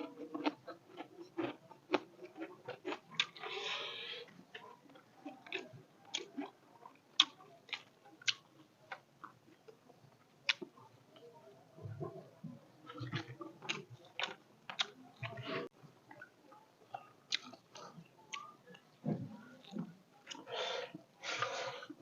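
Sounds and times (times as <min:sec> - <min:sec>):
person chewing food: 0:00.0 - 0:10.9, 0:12.8 - 0:16.3, 0:16.9 - 0:22.0.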